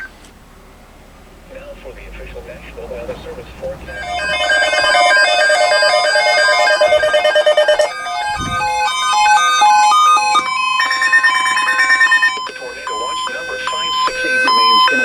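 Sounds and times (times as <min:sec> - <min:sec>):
electronic beeping melody: 0:02.8 - 0:15.0.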